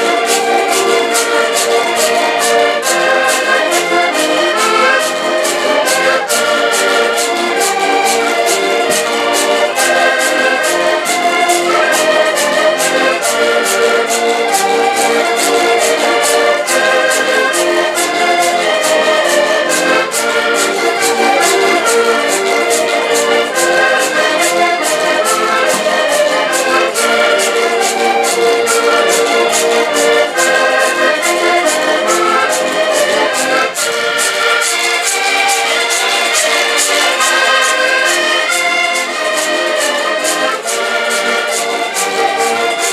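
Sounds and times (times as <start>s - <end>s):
accordions and guitar folk music: 0.0s - 42.9s.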